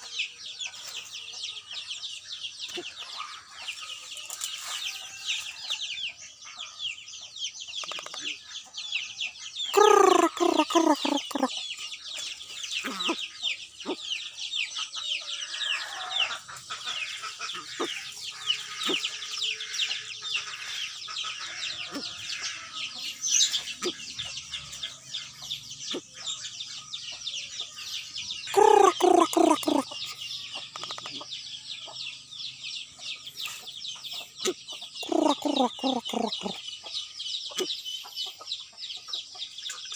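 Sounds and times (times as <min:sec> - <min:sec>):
high-pitched bird chirping: 0:00.0 - 0:05.0, 0:06.0 - 0:39.9.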